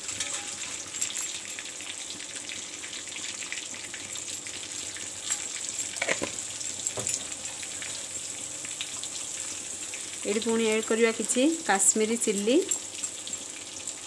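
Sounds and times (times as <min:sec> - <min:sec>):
oil sizzling in wok: 0:00.0 - 0:14.0.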